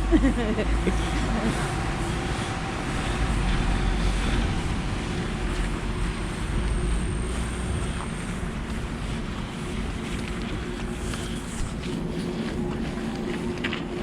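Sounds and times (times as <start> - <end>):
traffic rumble: 0.0 - 14.0
wind on microphone: 0.0 - 14.0
faint high whine: 0.9 - 14.0.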